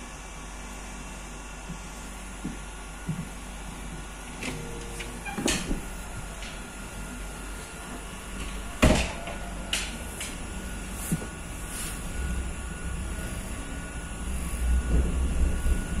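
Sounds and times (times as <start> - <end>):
train carriage hum: 0.0 - 16.0.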